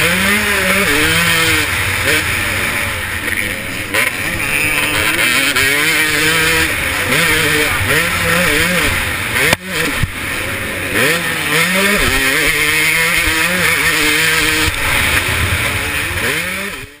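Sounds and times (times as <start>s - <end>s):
motocross engine revving hard: 0.0s - 17.0s.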